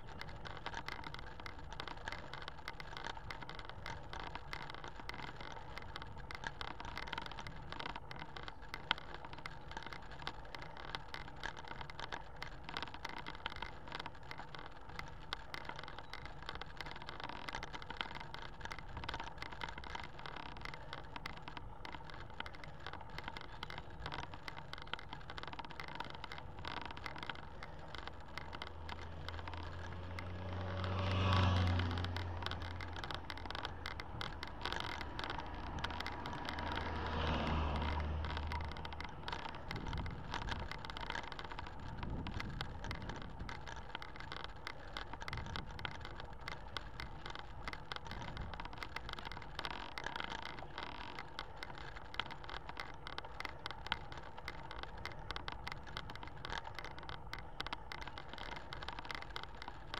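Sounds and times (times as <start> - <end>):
bicycle road noise: 0.0 - 59.9
bicycle ticking and rattling: 0.0 - 59.9
vehicles passing: 0.0 - 59.9.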